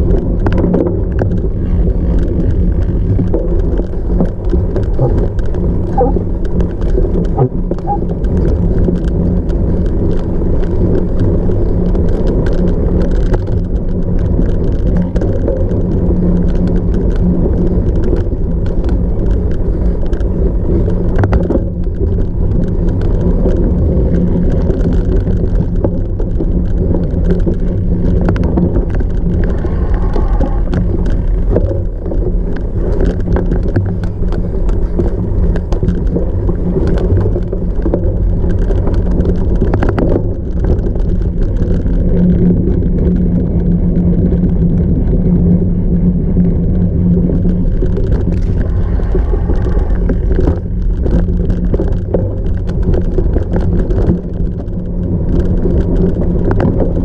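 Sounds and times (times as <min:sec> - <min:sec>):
bike clicks and knocks over bumps: 0:00.0 - 0:57.0
bike tyres rumbling off-road: 0:00.0 - 0:57.0.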